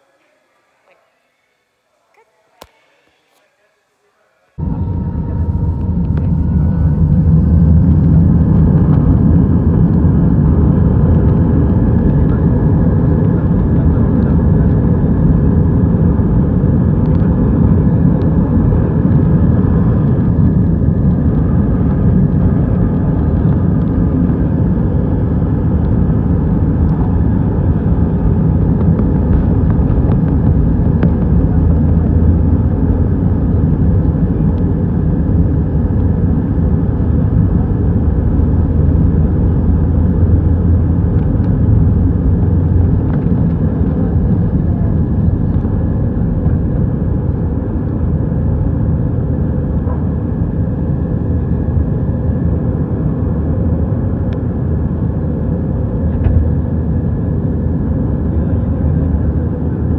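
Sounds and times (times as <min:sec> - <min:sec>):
jet engines roaring: 0:02.1 - 0:59.9
runway rumble: 0:04.5 - 0:59.9.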